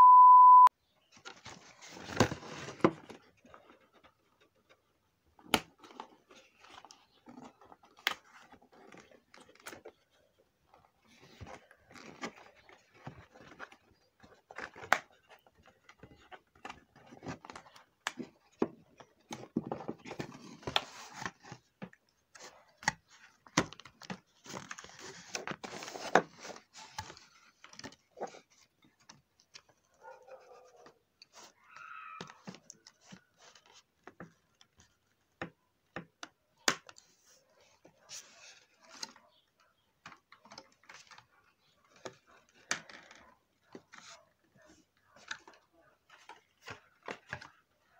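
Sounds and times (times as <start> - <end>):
cardboard and plastic rustling: 1.1 - 36.1, 36.7 - 47.9.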